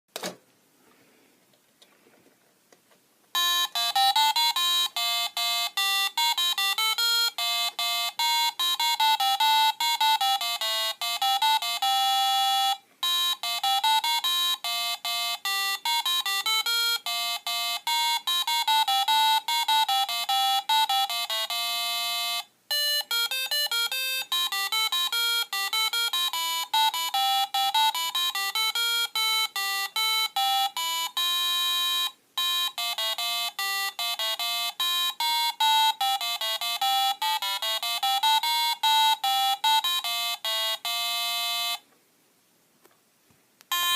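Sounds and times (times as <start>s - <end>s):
electronic alarm clock melody: 3.4s - 41.8s.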